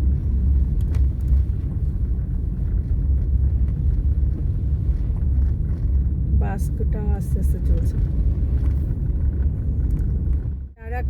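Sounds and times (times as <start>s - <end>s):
car driving over snow from inside: 0.0s - 11.0s.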